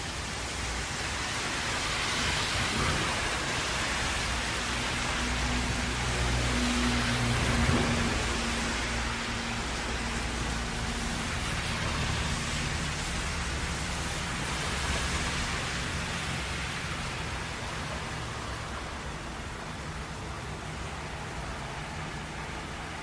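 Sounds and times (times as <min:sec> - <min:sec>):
heavy rain hissing: 0:00.0 - 0:23.0
traffic on wet road: 0:00.0 - 0:23.0.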